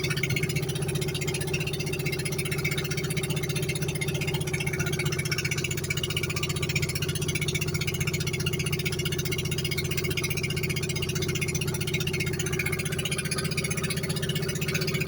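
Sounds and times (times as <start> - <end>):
small boat engine pulsing: 0.0 - 15.0.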